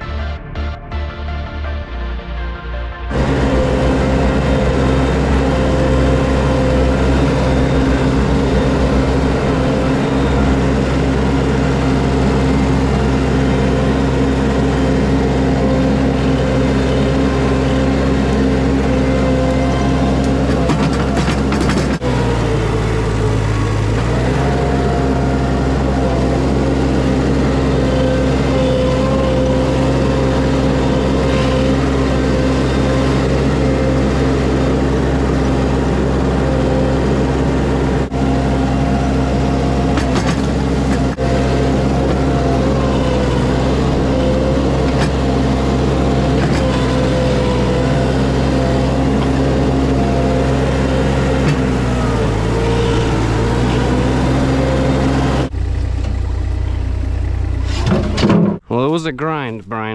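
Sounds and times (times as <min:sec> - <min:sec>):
skid steer engine running: 0:00.0 - 0:59.9.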